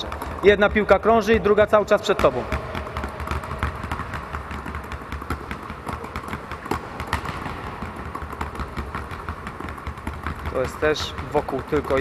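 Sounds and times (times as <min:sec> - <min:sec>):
basketballs bouncing on gym floor: 0:00.0 - 0:12.0.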